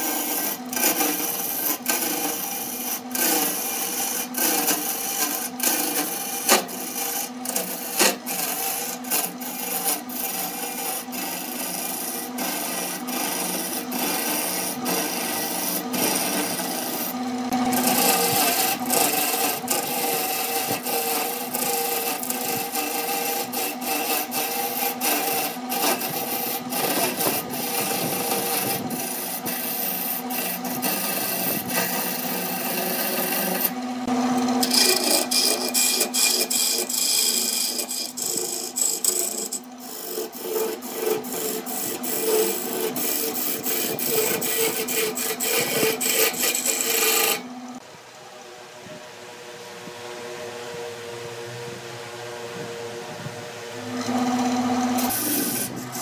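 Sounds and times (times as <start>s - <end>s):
tool scraping spinning wood: 0.0s - 47.8s, 49.9s - 56.0s
lathe motor hum: 0.0s - 56.0s.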